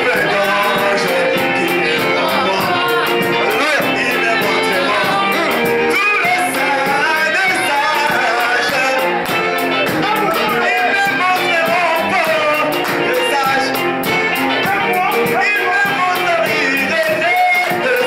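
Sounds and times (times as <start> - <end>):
man singing into microphone: 0.0 - 9.2, 10.0 - 13.9, 14.6 - 18.0
acoustic guitar: 0.0 - 18.0
keyboard: 0.0 - 18.0.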